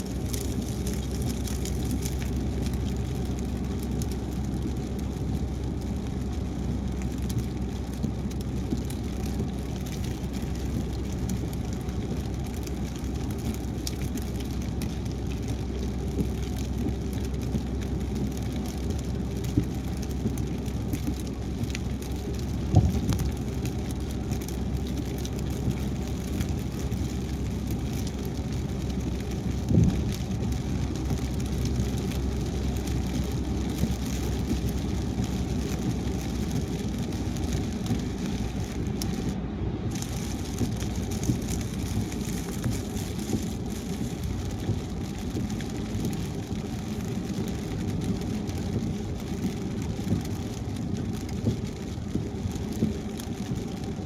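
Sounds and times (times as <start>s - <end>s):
car road noise on wet highway: 0.0s - 54.0s.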